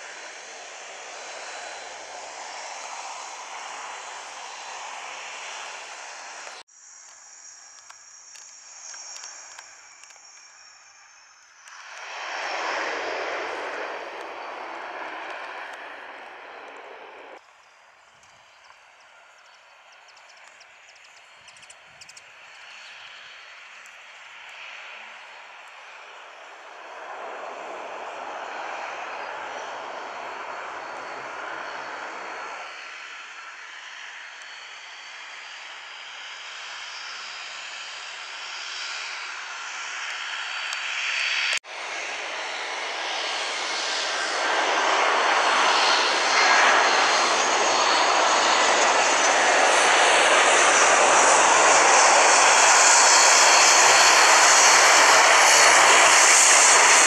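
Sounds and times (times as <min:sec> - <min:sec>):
turboprop engine running: 0:00.0 - 0:06.6, 0:11.6 - 0:17.4, 0:18.2 - 0:57.0
jet airliner landing: 0:00.0 - 0:57.0.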